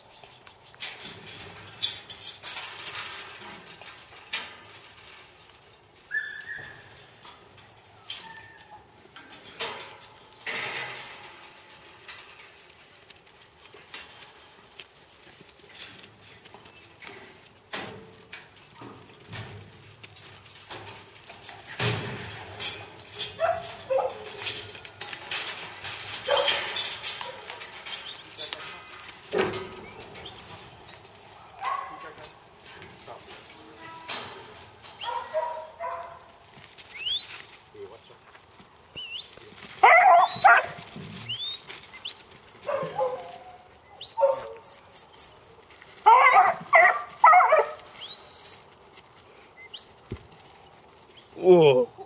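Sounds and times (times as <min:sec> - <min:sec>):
metal panels and gates clanking: 0:00.8 - 0:38.0, 0:39.6 - 0:44.6.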